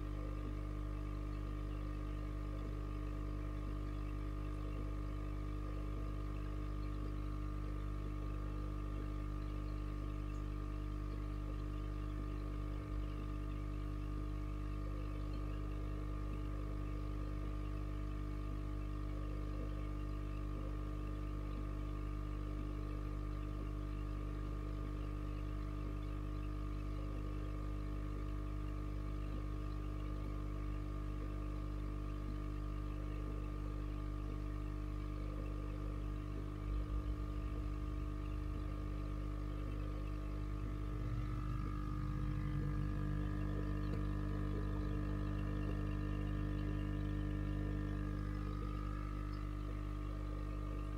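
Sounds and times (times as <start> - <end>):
aquarium filter motor humming: 0.0 - 50.9.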